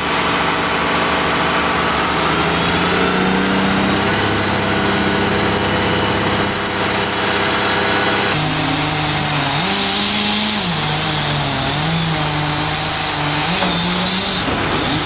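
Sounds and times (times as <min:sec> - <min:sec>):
engine running at low speed: 0:00.0 - 0:15.0.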